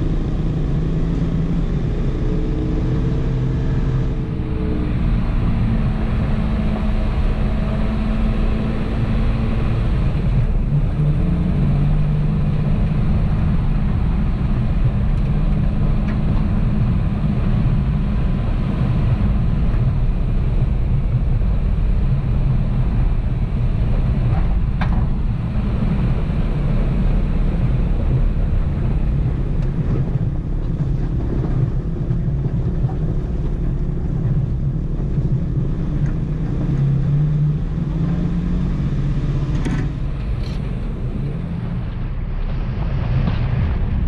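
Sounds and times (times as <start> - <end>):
engine rumble: 0.0 - 44.0.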